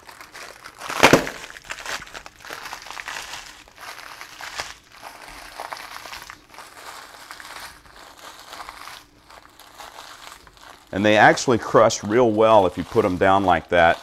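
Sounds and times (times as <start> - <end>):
crackers being crushed: 0.0 - 14.0
plastic wrapper crinkling: 0.0 - 14.0.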